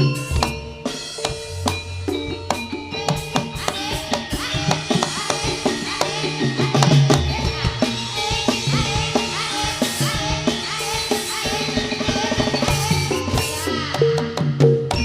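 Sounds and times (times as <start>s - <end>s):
drums beating busy rhythm: 0.0s - 15.0s.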